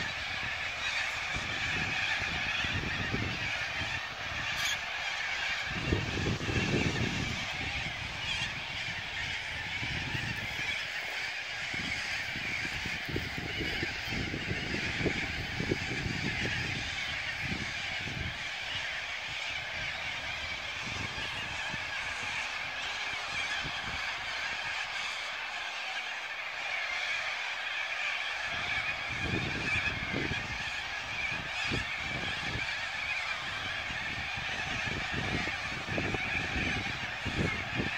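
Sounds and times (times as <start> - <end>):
flock of birds screeching: 0.0 - 37.9.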